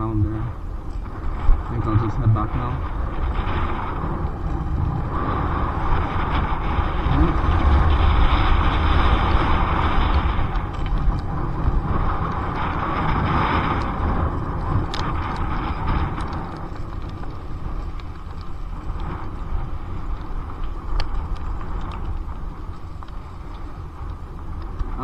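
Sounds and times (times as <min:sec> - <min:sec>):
wind and tyre rushing: 0:00.0 - 0:25.0.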